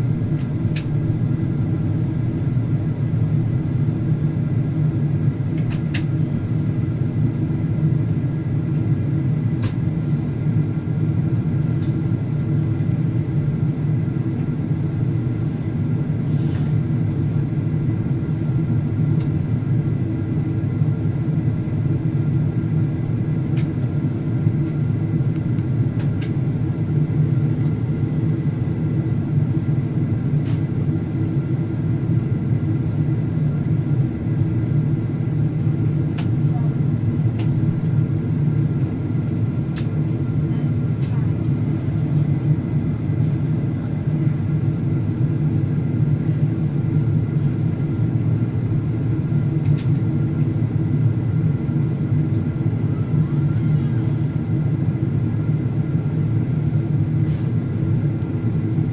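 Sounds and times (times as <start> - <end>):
aircraft cabin rumble: 0.0 - 58.9.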